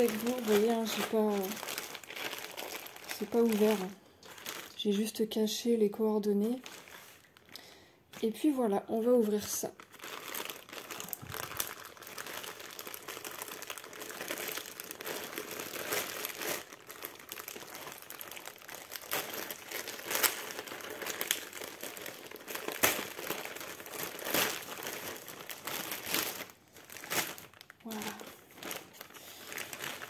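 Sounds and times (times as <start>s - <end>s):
plastic bag tearing: 0.0s - 30.0s
plastic mailer bag crinkling: 0.0s - 30.0s.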